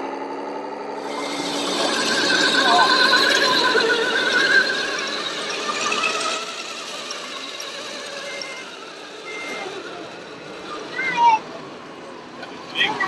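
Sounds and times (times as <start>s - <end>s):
toy truck mechanical whine: 0.1s - 13.0s.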